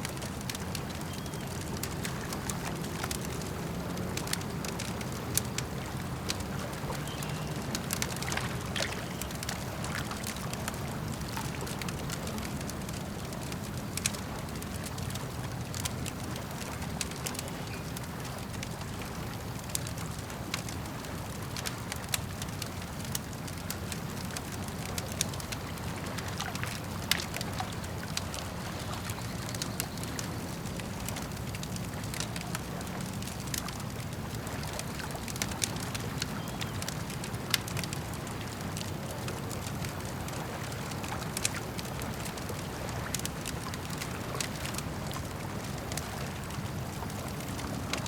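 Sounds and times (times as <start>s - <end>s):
campfire crackling and popping: 0.0s - 48.0s
lake water rushing: 0.0s - 48.0s.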